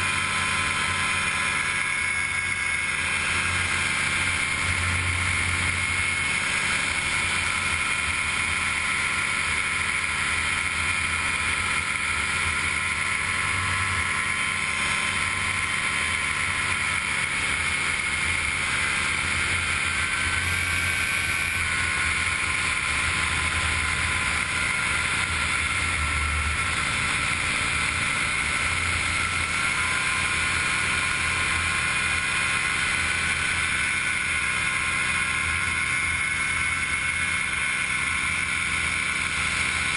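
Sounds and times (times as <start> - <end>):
aircraft engine droning: 0.0 - 39.9.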